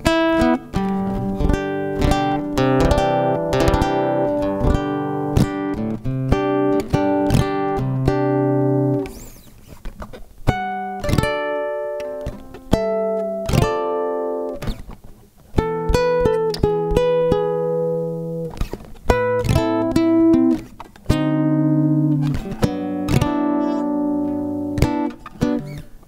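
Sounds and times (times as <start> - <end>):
electric classical guitar chords: 0.0 - 26.0.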